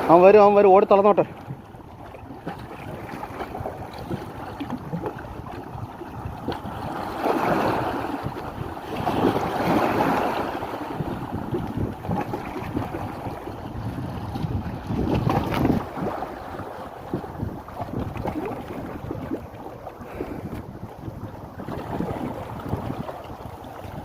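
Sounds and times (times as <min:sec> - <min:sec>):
sea waves washing: 0:00.0 - 0:24.0
wind buffeting microphone: 0:00.0 - 0:24.0.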